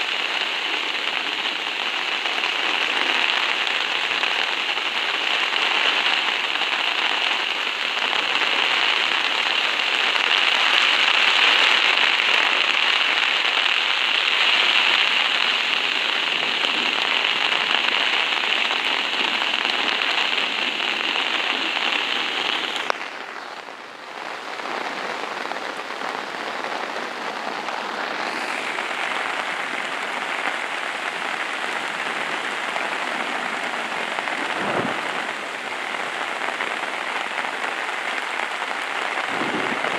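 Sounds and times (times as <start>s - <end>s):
heavy rain on a tarp: 0.0s - 39.9s.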